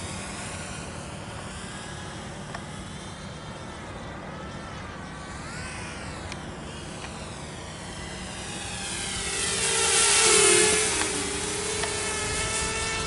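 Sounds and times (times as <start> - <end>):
quadcopter propellers buzzing: 0.0 - 13.0.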